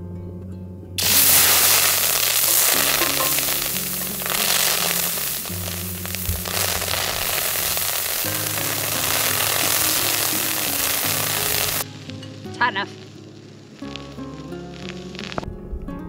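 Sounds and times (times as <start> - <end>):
background music: 0.0 - 16.0
food sizzling in hot pan: 1.0 - 15.5.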